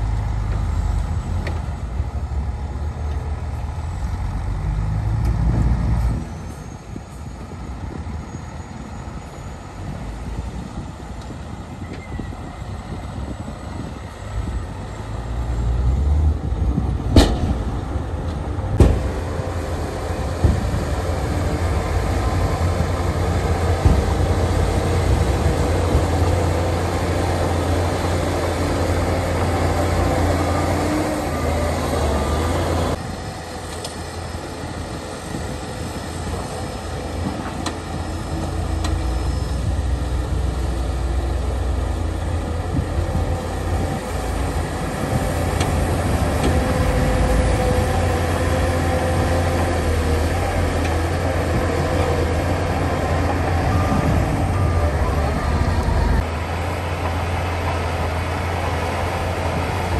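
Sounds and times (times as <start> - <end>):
bulldozer pushing soil: 0.0 - 59.9
heavy diesel engines running: 0.0 - 59.9.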